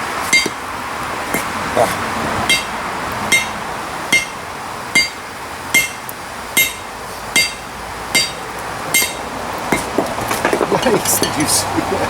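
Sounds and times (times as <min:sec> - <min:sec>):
hammer blows on hot steel: 0:00.2 - 0:00.6, 0:01.3 - 0:12.0.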